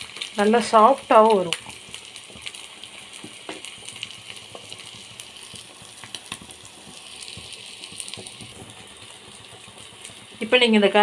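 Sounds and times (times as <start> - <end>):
egg frying in oil: 0.0 - 11.0.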